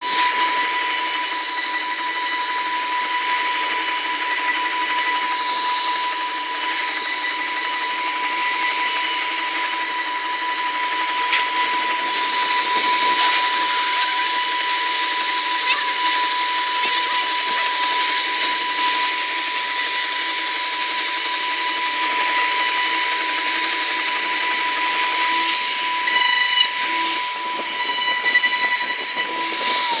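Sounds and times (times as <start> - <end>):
router spindle whining: 0.0 - 30.0.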